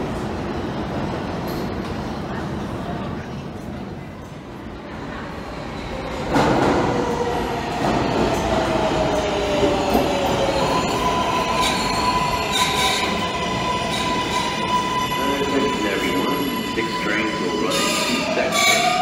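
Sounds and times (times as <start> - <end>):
subway train rumbling on rails: 0.0 - 19.0.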